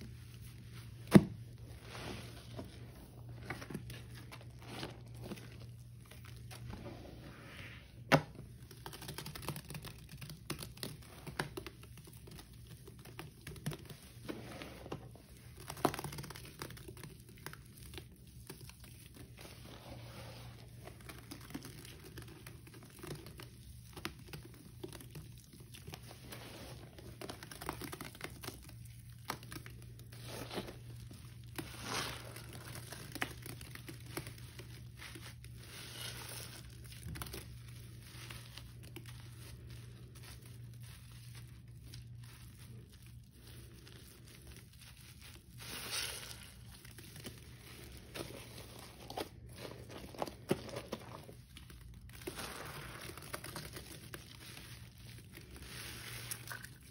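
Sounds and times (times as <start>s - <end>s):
sponges squelching in foamy paste: 0.0s - 56.9s.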